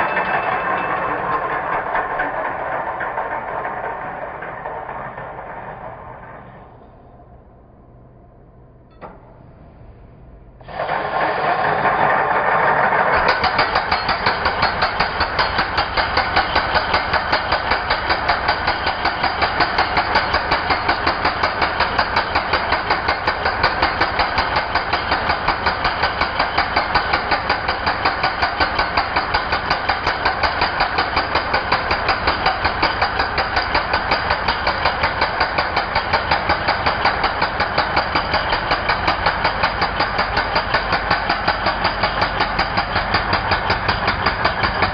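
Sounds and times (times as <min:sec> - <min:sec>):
electric concrete breaker hammering: 0:00.0 - 0:06.8, 0:10.6 - 0:44.9.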